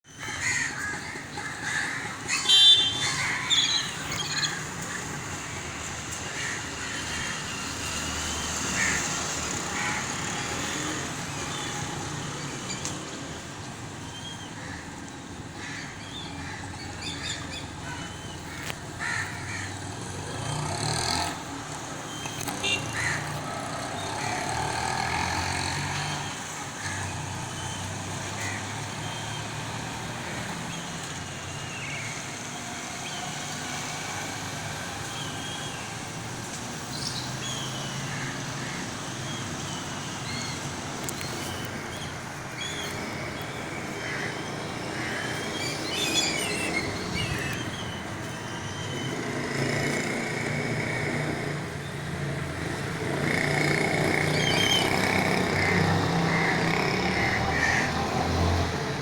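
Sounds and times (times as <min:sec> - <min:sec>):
birds chirping: 0:00.1 - 0:07.6, 0:08.5 - 0:33.7, 0:34.3 - 0:59.0.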